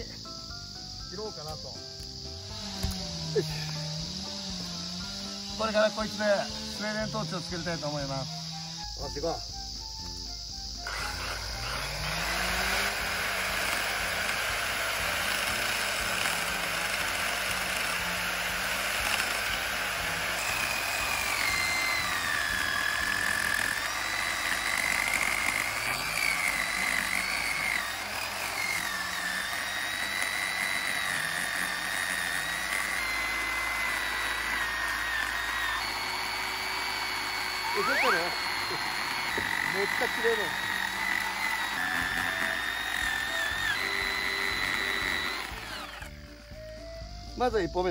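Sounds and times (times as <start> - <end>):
chainsaw cutting log: 1.4 - 9.4, 10.8 - 46.9.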